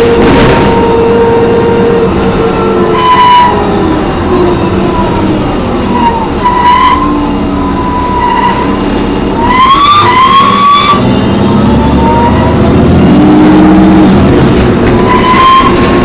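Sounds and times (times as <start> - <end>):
bus high-pitched screech: 0.0 - 12.6, 15.0 - 16.0
diesel engine rumble: 0.0 - 16.0.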